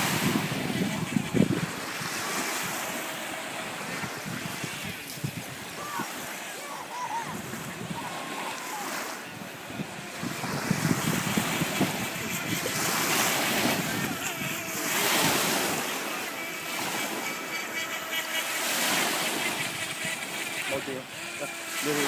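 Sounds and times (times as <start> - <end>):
choppy water: 0.0 - 22.0
high whine of small electric motor: 0.0 - 22.0
wind gusting on microphone: 0.0 - 22.0.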